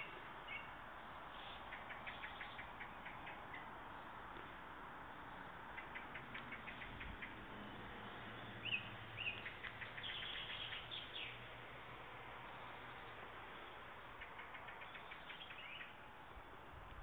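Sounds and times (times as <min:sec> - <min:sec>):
small birds chirping: 0:00.0 - 0:04.6, 0:05.2 - 0:11.6, 0:12.3 - 0:17.0.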